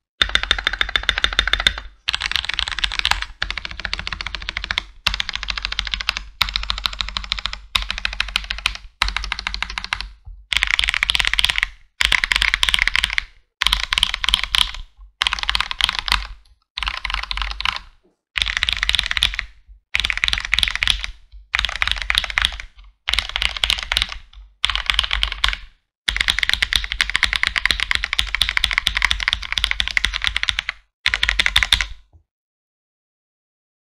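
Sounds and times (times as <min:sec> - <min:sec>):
fast typing on mechanical keyboard: 0:00.2 - 0:32.1.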